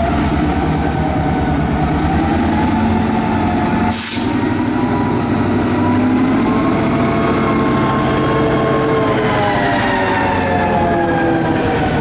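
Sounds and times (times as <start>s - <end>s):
diesel locomotive engine passing: 0.0s - 12.0s.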